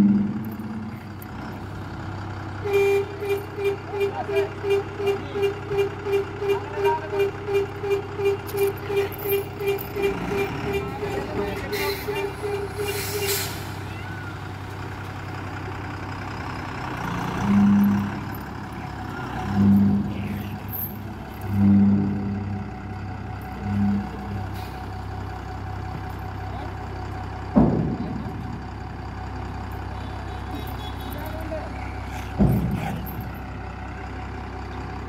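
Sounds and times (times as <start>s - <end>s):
diesel truck engine idling and revving: 0.0s - 35.0s.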